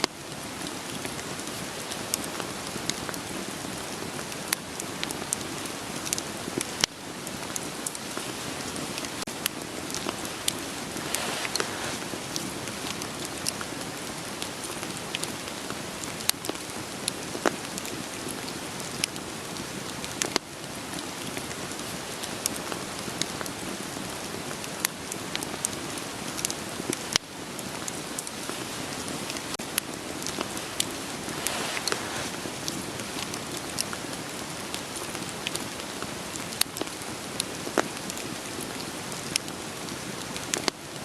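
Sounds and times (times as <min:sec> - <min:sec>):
rain falling: 0:00.0 - 0:41.0
wood fire crackling: 0:00.0 - 0:41.0.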